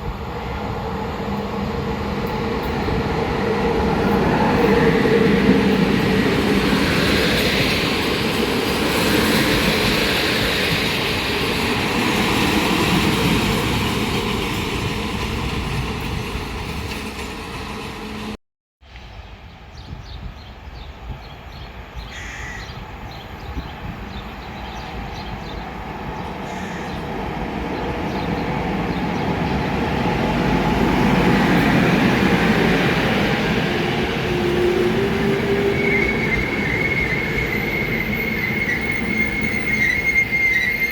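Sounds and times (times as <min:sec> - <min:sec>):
train approaching: 0:00.0 - 0:18.4, 0:22.8 - 0:40.9
train running on rails: 0:00.0 - 0:18.4, 0:19.5 - 0:40.9.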